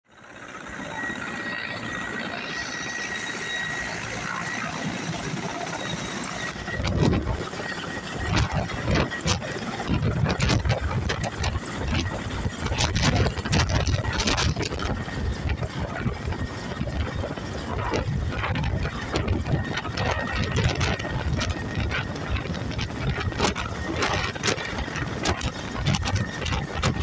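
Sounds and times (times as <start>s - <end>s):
helicopter turbine and rotor noise: 0.0s - 27.0s
rotor downwash buffeting microphone: 0.7s - 27.0s.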